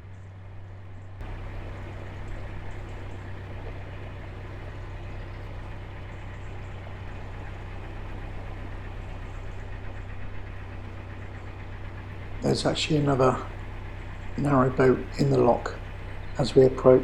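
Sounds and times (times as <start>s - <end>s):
boat diesel engine humming: 0.0s - 17.0s.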